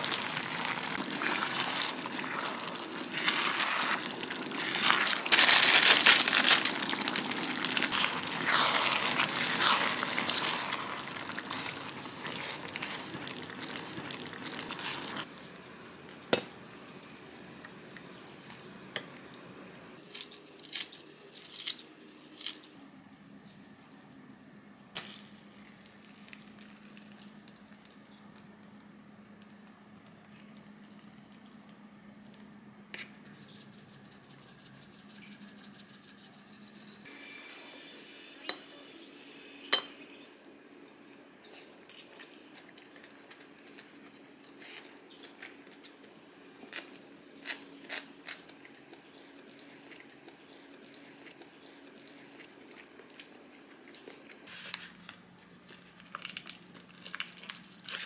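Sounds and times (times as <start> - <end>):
low steady hum with crackle: 0.0 - 58.0.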